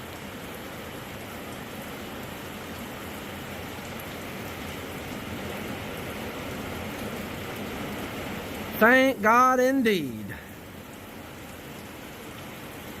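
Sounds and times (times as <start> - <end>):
rain on a shed roof: 0.0 - 13.0.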